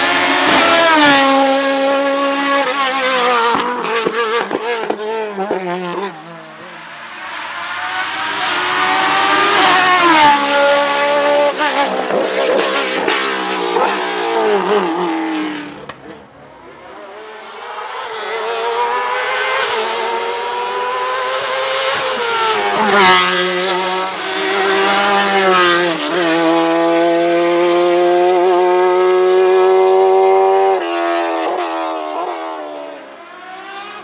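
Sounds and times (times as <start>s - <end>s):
race car engines at full throttle: 0.0s - 34.0s.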